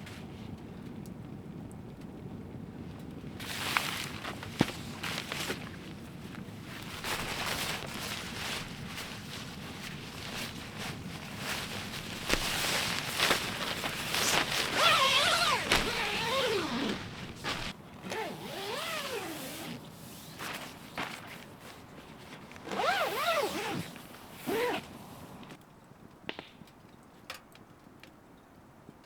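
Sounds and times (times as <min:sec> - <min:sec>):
rustling of camping gear: 0:02.3 - 0:25.6.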